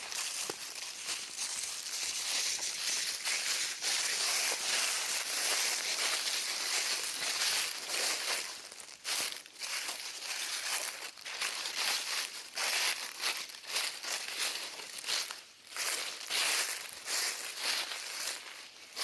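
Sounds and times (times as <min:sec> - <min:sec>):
footsteps crunching through dry leaves: 0:00.0 - 0:19.0.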